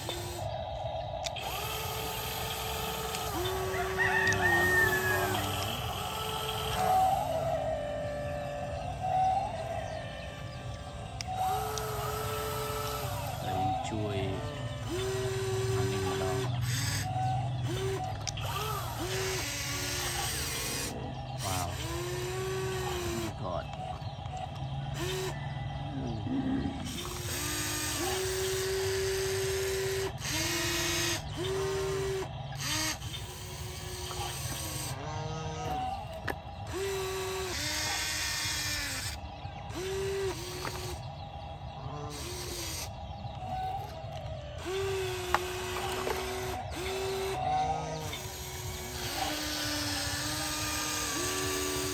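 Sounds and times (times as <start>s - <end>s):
toy motors and gears whirring: 0.0s - 51.9s.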